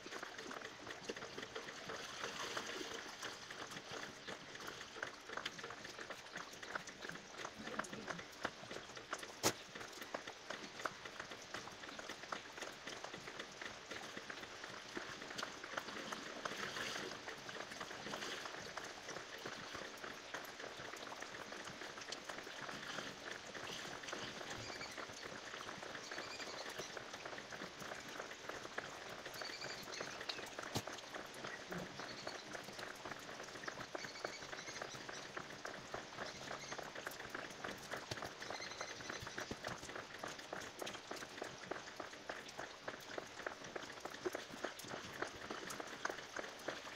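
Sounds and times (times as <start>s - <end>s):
water trickling and dripping: 0.0s - 46.9s.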